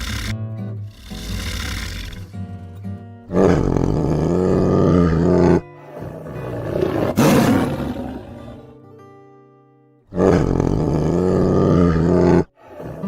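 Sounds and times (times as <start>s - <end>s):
big cat roaring: 0.0s - 8.8s, 10.1s - 13.0s.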